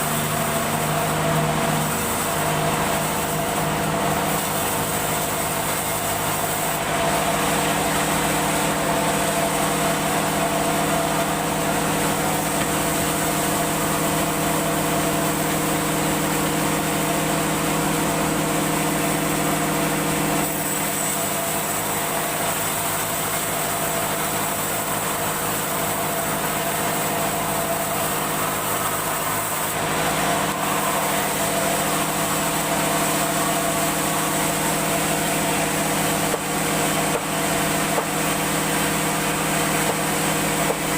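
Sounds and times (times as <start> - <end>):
woodworking machine motor humming: 0.0 - 40.9.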